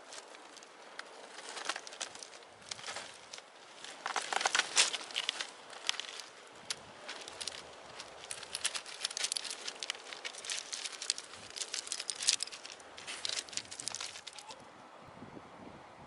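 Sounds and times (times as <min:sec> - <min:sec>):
dry twigs crackling: 0:00.0 - 0:14.7.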